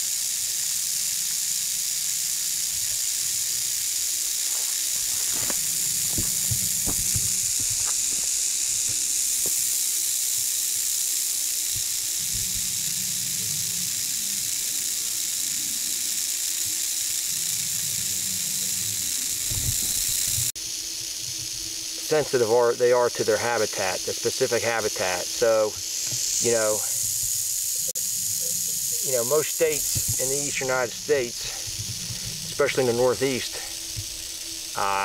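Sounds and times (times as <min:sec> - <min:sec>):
rattlesnake rattling: 0:00.0 - 0:35.0.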